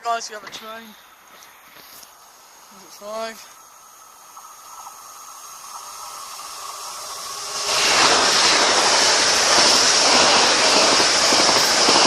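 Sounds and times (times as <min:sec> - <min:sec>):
train passing at speed: 0:02.3 - 0:12.0.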